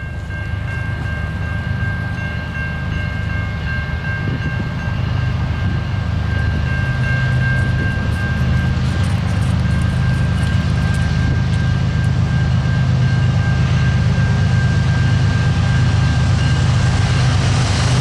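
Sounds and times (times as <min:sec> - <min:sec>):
locomotive engines rumbling: 0:00.0 - 0:18.0.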